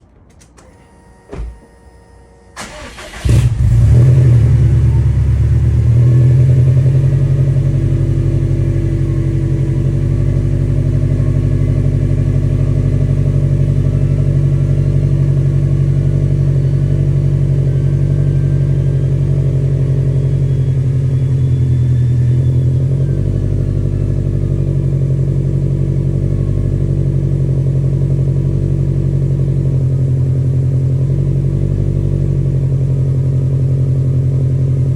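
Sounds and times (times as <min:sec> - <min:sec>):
car engine starting and idling: 0:00.0 - 0:34.9.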